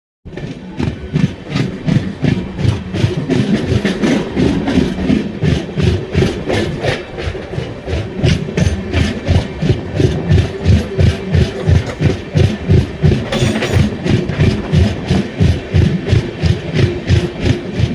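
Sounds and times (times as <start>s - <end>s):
train rhythmic clatter: 0.2s - 17.9s
low train rumble: 0.3s - 17.9s.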